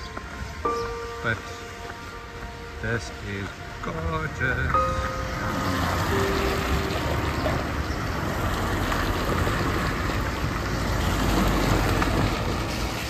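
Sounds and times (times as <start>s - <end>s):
car engine noise: 0.0s - 13.0s
tyres hissing on wet road: 2.5s - 13.0s.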